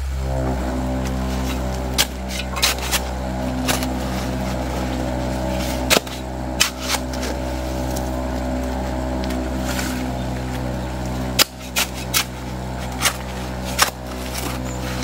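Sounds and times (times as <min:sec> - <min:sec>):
vibrating motor humming: 0:00.0 - 0:15.0.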